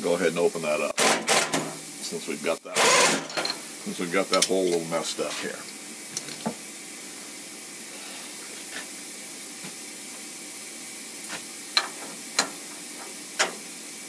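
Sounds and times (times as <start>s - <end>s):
milling machine hiss: 0.0s - 14.0s.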